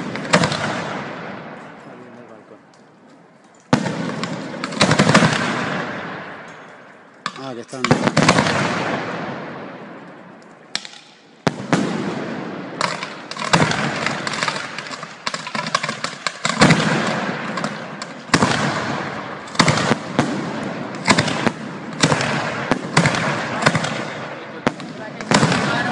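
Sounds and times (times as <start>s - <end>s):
fireworks bangs: 0.0s - 2.2s, 3.7s - 25.9s.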